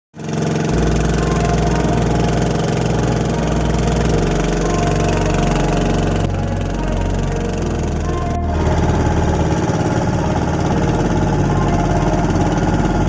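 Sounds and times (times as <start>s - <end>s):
motorboat engine running: 0.2s - 13.0s.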